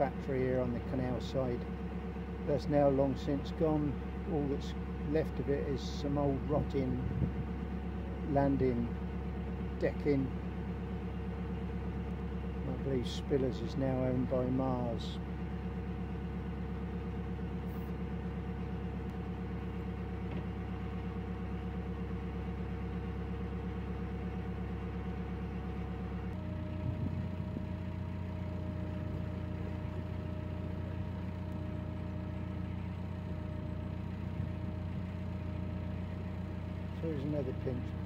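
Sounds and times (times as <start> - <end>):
boat diesel engine running: 0.0 - 38.0.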